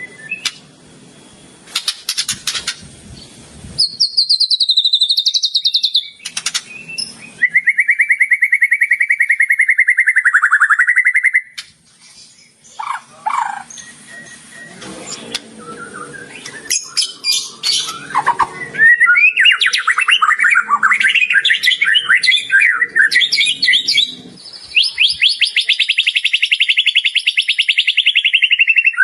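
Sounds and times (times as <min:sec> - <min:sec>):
bird singing: 0:00.0 - 0:29.0
rapid high bird trill: 0:00.0 - 0:29.0
sharp bird chips: 0:01.7 - 0:02.9, 0:03.8 - 0:15.5, 0:16.3 - 0:29.0.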